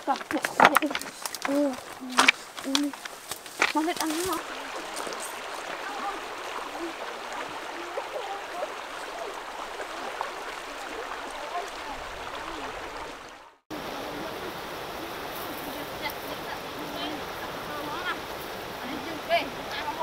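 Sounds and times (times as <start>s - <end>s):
outdoor ambience: 0.0s - 20.0s
river flowing over rocks: 0.0s - 20.0s.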